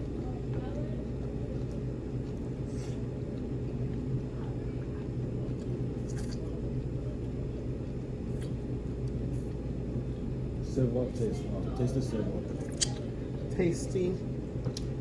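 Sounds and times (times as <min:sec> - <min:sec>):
room background hum: 0:00.0 - 0:15.0.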